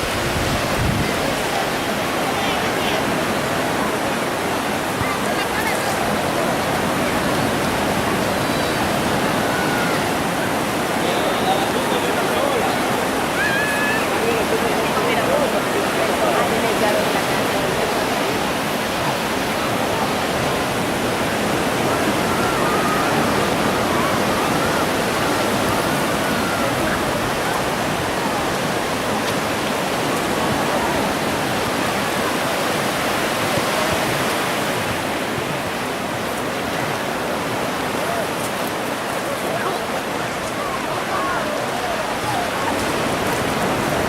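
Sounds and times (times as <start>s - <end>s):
ocean surf rushing: 0.0s - 44.0s.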